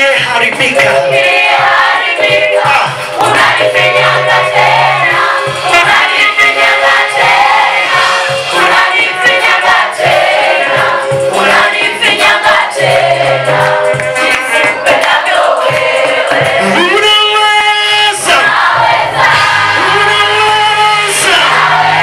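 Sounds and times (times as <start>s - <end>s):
vocal group singing gospel: 0.0s - 22.0s.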